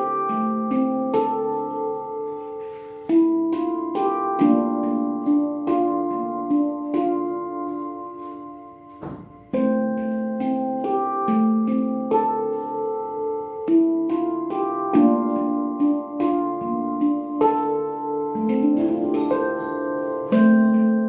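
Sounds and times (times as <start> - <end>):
handpan melody: 0.0 - 21.0.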